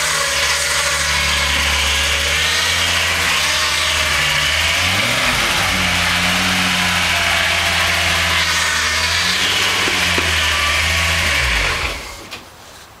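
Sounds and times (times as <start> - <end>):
noisy power-steering pump: 0.0 - 12.4
car engine idling and clattering: 0.0 - 12.5
engine switched off running down: 1.1 - 12.3.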